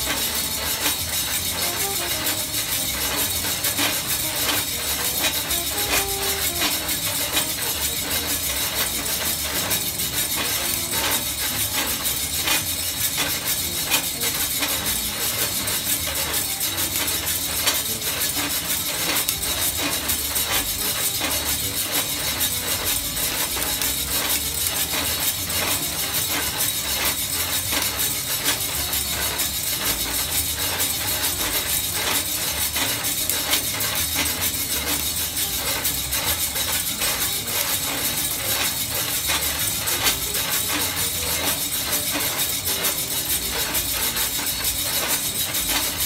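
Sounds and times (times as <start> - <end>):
coffee beans rattling in drum: 0.0 - 46.0.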